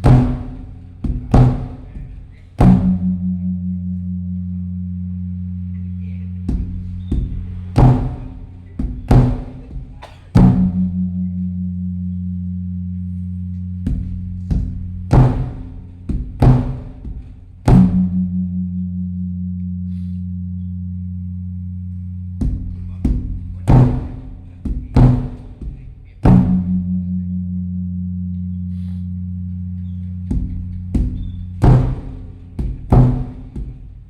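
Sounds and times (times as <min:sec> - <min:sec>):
large drum strokes: 0:00.0 - 0:04.8, 0:06.3 - 0:12.4, 0:13.0 - 0:20.2, 0:22.0 - 0:27.5, 0:29.9 - 0:34.0.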